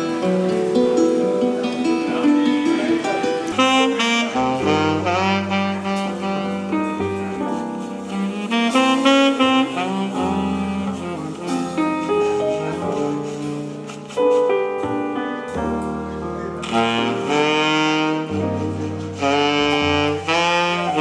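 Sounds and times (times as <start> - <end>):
jazz music: 0.0 - 21.0.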